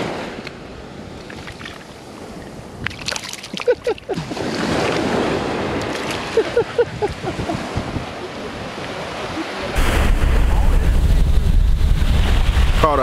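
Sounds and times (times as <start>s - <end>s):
surf washing over beach: 0.0s - 13.0s.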